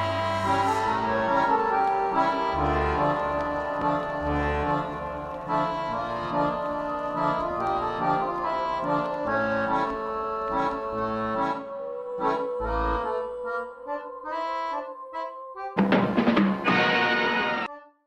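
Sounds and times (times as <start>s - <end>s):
instrumental background music: 0.0s - 18.0s.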